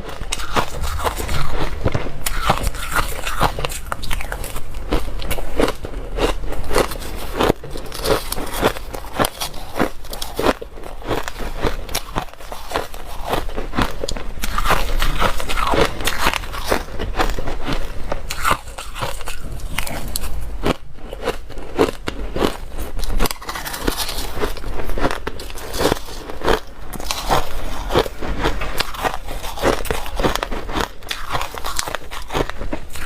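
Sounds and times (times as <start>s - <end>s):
ice being chewed: 0.0s - 33.0s.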